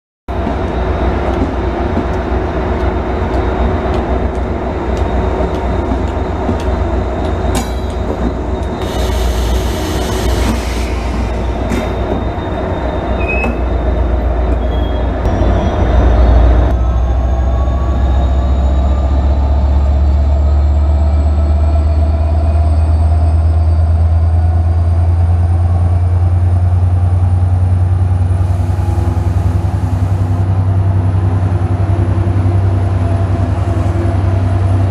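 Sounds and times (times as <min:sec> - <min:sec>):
train whine rising in pitch: 0:00.3 - 0:34.9.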